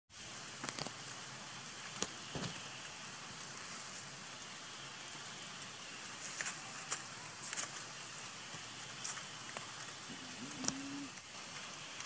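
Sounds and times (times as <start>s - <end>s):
rain hissing: 0.1s - 12.0s.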